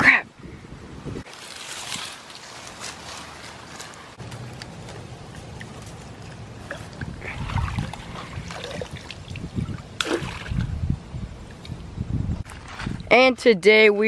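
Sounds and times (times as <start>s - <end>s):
water splashing and sloshing: 1.3s - 13.3s.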